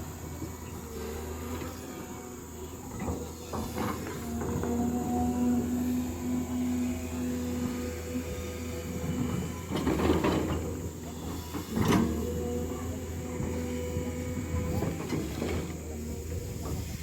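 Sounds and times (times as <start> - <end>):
diesel machine engine running: 0.0 - 17.0
held whine: 0.0 - 17.0.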